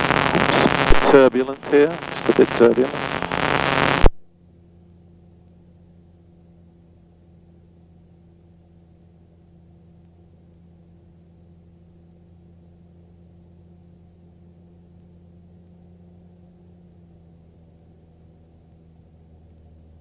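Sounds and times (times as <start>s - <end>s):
aircraft engine and propeller droning: 0.0s - 20.0s.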